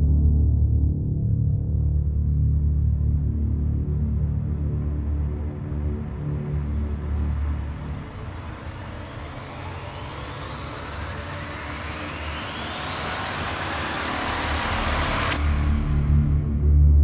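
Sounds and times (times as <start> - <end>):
rising white-noise sweep: 3.1 - 17.0.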